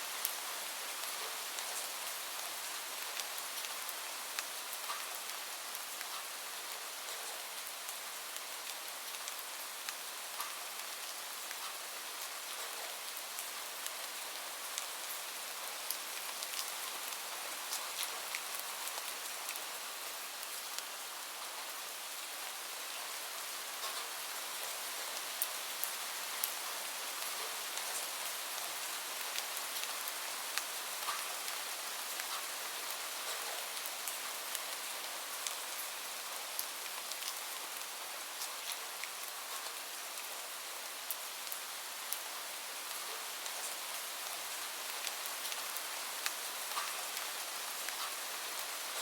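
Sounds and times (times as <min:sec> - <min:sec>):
steady rain: 0:00.0 - 0:49.0.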